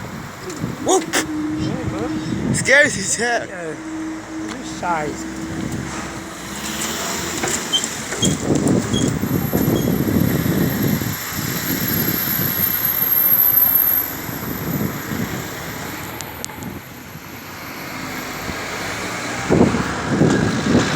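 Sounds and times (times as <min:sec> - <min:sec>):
vehicles passing with rumble: 0:00.0 - 0:20.9.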